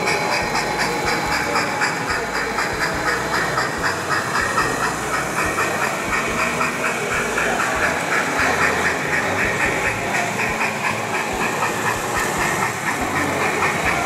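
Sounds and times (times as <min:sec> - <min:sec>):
model steam locomotive chuffing: 0:00.0 - 0:14.0
steady hiss: 0:00.0 - 0:14.0.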